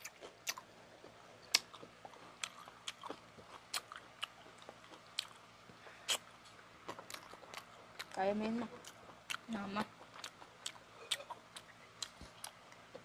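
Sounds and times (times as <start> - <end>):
people chewing with wet smacks: 0.0 - 13.0.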